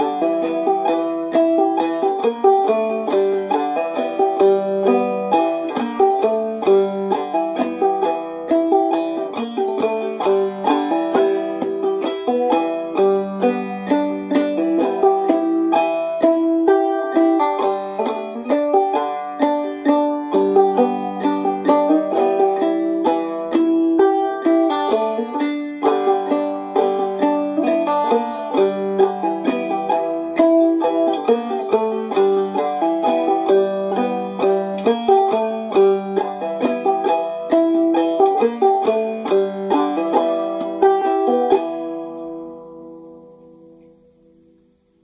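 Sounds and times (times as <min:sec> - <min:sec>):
banjo melody: 0:00.0 - 0:45.0.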